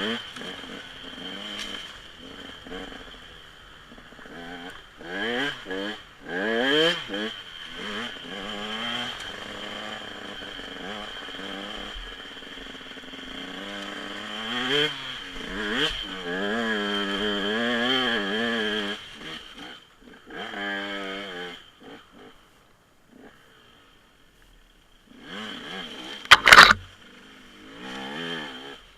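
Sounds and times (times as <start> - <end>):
dirt bike engine revving: 0.0 - 22.4, 25.1 - 28.8.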